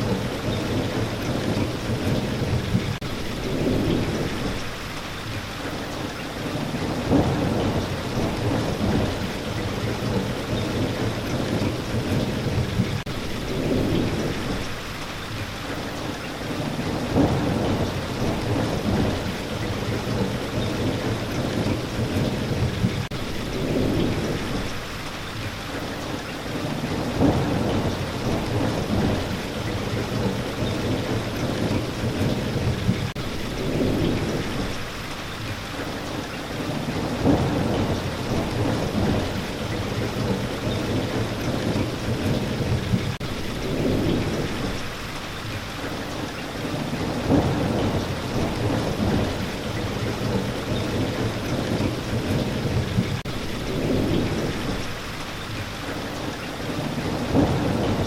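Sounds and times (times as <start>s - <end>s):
heavy rain: 0.0s - 58.0s
thunder rumbles: 0.0s - 58.0s.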